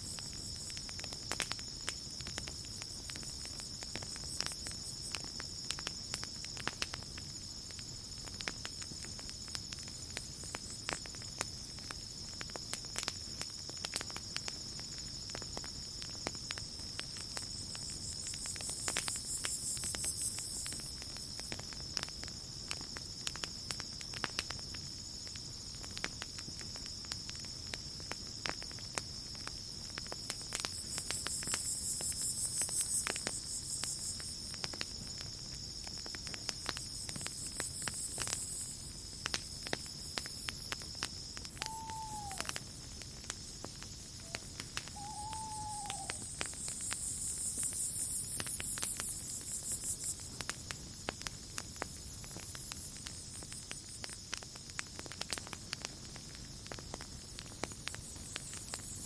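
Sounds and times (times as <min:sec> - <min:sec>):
campfire crackling: 0:00.0 - 0:59.0
crickets chirping: 0:00.0 - 0:59.0
insect trill: 0:00.0 - 0:59.0.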